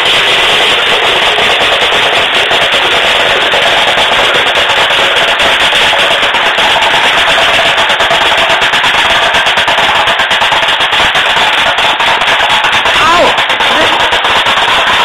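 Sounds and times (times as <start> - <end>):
airsoft gun rapid fire: 0.0 - 15.0.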